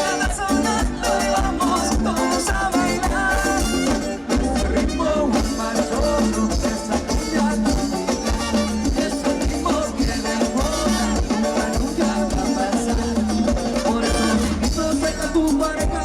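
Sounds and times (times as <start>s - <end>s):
latin dance band playing: 0.0s - 16.0s.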